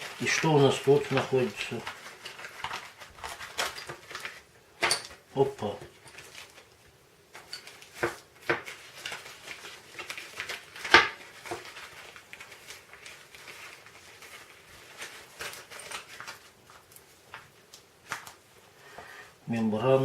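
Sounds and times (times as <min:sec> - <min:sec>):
rustling: 0:00.0 - 0:19.4.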